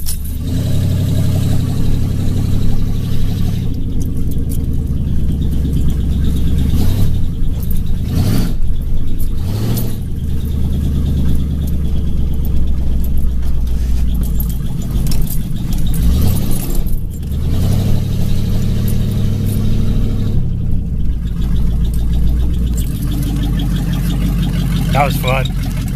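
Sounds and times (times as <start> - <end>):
car engine idling: 0.0 - 25.9
engine throttle blips: 0.0 - 25.9.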